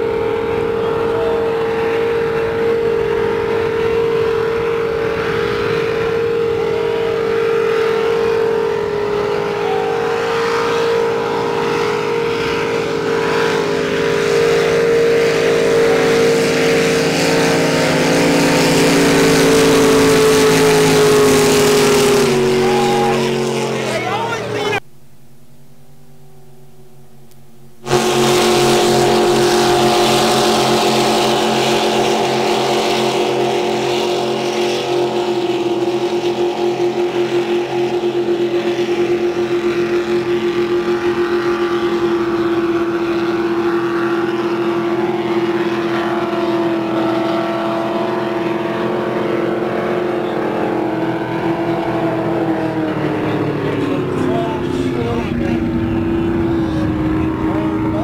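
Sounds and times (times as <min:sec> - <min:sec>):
racing boat engines droning: 0:00.0 - 0:58.0.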